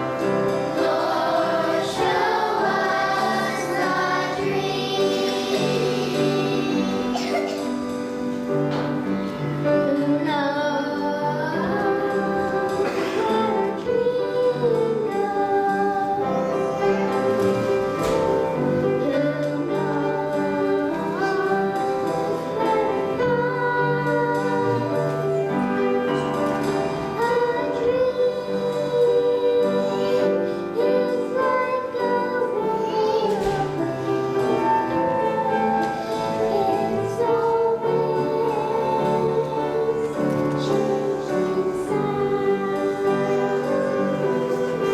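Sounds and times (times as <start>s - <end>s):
song with singing: 0.0s - 44.9s.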